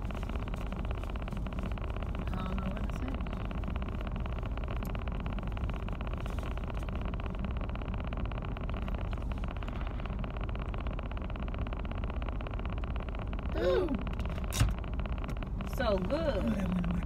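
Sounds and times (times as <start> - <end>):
car engine hum inside cabin: 0.0 - 17.0.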